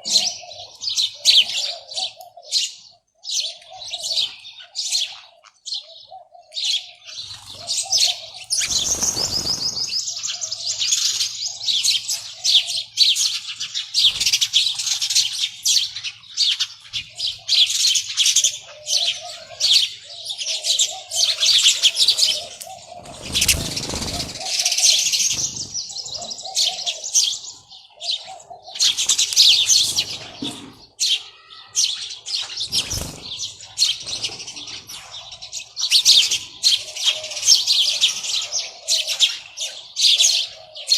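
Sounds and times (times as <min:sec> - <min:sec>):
small birds chirping chorus: 0:00.0 - 0:40.9.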